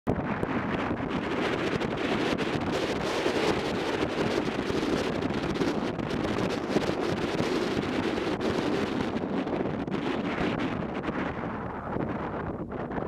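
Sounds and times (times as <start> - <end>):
wind rushing on microphone: 0.1 - 13.0.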